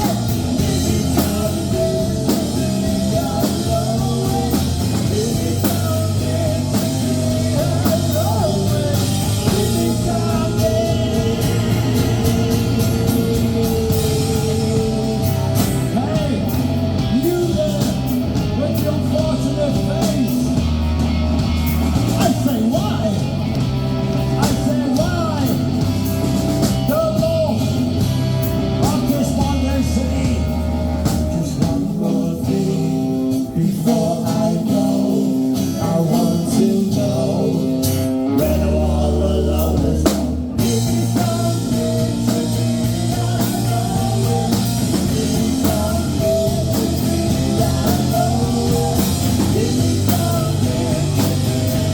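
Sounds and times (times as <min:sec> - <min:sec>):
person singing: 0:00.0 - 0:20.8, 0:28.6 - 0:51.9
rock band playing: 0:00.0 - 0:51.9.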